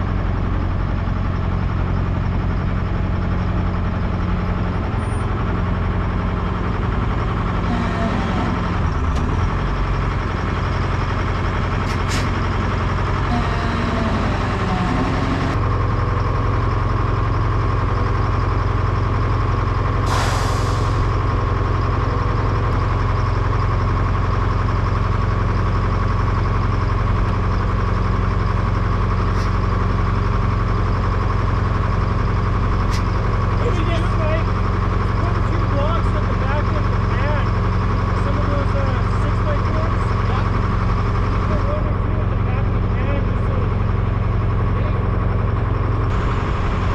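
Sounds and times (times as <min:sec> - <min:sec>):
vehicle engine droning: 0:00.0 - 0:46.9.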